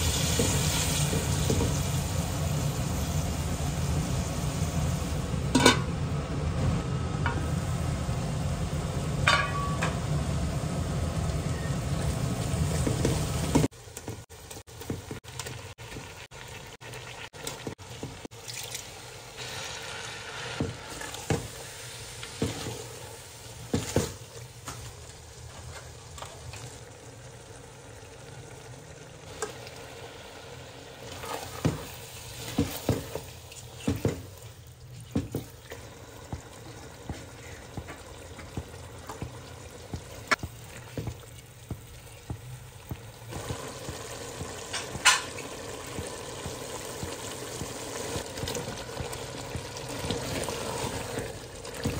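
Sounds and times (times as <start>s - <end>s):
chicken sizzling in hot oil: 0.0s - 5.8s, 7.4s - 51.9s.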